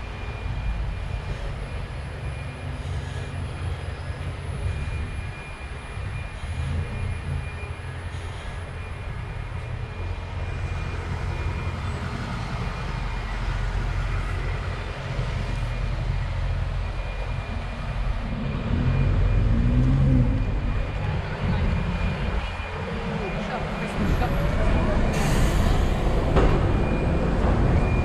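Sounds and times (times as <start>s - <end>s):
rumble of passing cars and buses: 0.0s - 28.0s.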